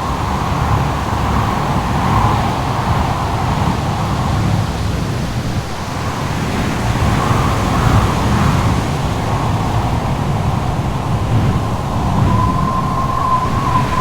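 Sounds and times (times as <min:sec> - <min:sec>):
howling wind: 0:00.0 - 0:14.0
wind roaring: 0:00.0 - 0:14.0.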